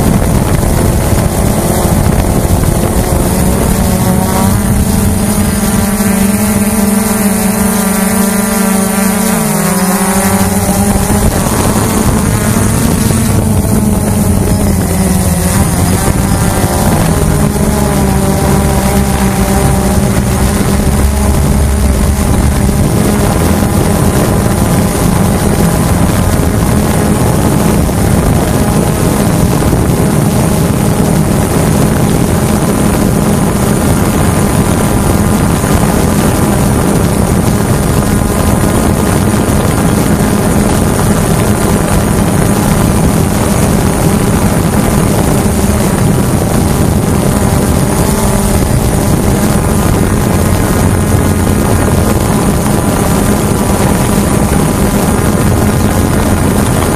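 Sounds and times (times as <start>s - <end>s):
drone propellers whining: 0.0s - 56.9s.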